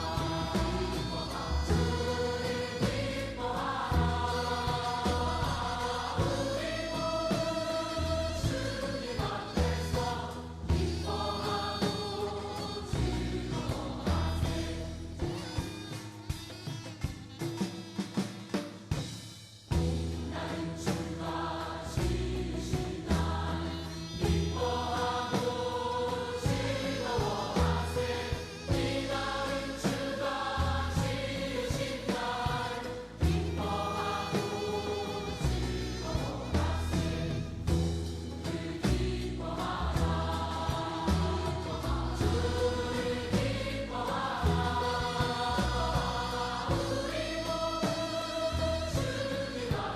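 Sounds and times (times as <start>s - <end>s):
choir-like singing over deep bass: 0.0s - 15.9s, 19.7s - 49.9s
sharp drum strikes: 0.0s - 48.3s.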